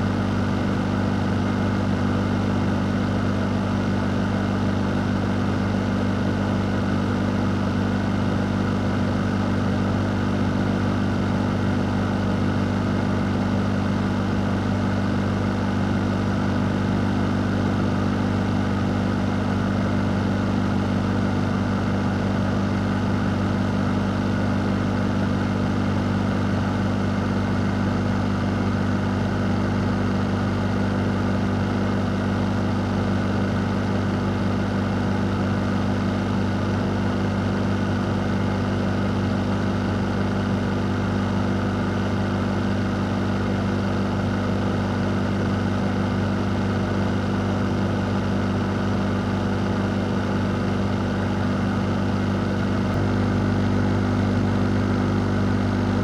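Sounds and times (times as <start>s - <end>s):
fan running: 0.0s - 56.0s.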